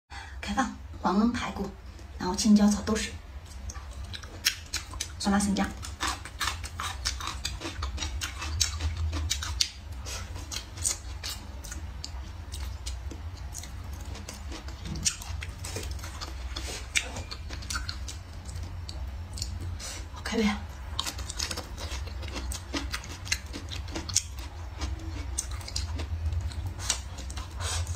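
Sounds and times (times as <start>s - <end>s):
low steady hum: 0.1s - 27.9s
chewing with crisp crunches: 3.4s - 27.9s.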